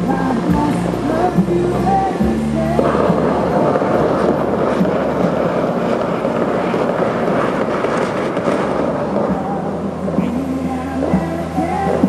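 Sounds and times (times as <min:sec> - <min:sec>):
fountain water jets roaring: 0:00.0 - 0:12.0
show music: 0:00.0 - 0:12.0.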